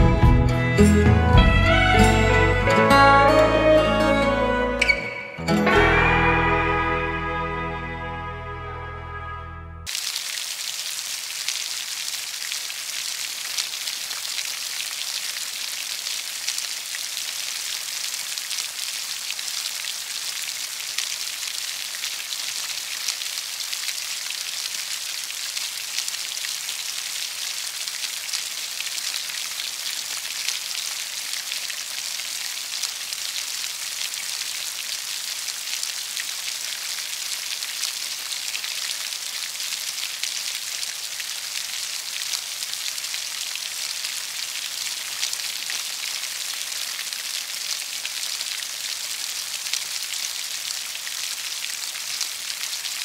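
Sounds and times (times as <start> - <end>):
steady rain falling: 9.9 - 53.0.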